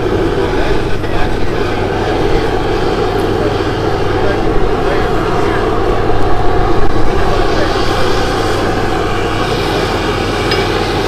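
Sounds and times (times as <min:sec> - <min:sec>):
gas forge burner roaring: 0:00.0 - 0:11.0
low hum: 0:00.0 - 0:11.0.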